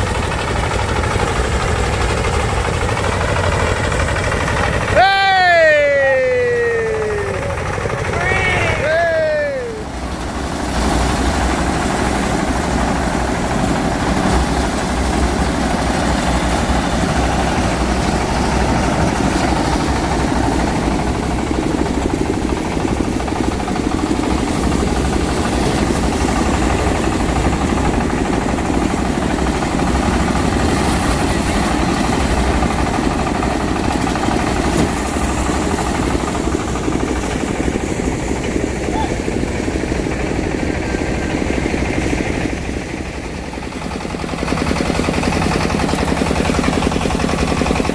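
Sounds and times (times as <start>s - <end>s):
threshing machine engine running: 0.0s - 47.9s.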